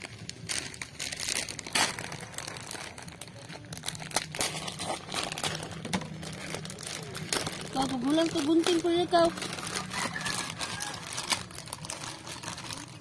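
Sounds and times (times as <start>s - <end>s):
rustling and crinkling handling: 0.0s - 13.0s.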